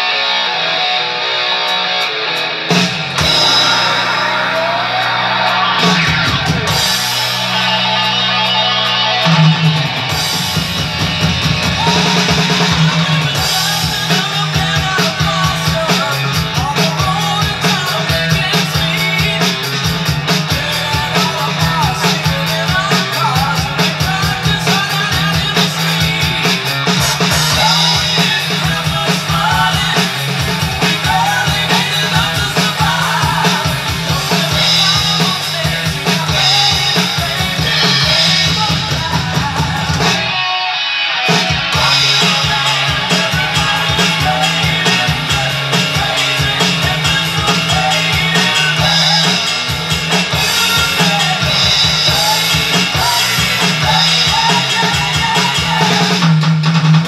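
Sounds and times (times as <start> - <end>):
rock backing track with electric guitars: 0.0 - 57.0
electronic drum kit beat: 1.6 - 57.0.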